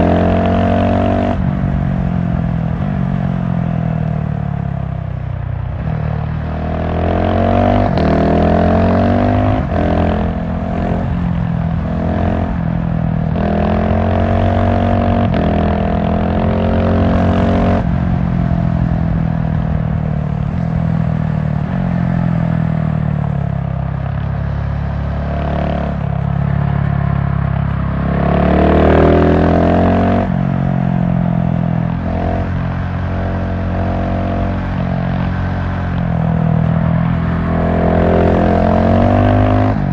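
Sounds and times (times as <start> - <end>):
motorcycle engine revving: 0.0 - 5.0, 5.6 - 39.9.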